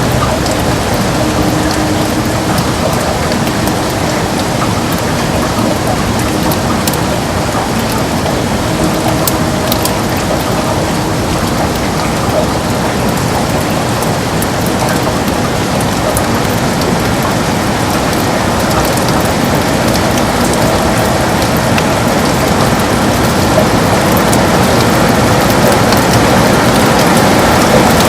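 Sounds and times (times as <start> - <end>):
heavy rain against a window: 0.0 - 28.0
sharp taps of raindrops: 0.0 - 28.0.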